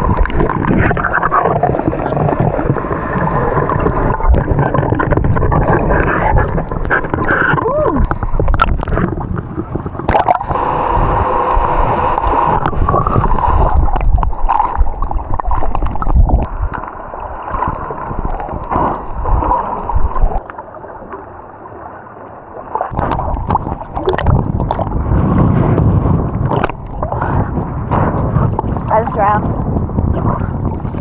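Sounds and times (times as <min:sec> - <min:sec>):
water sloshing and gurgling: 0:00.0 - 0:31.0.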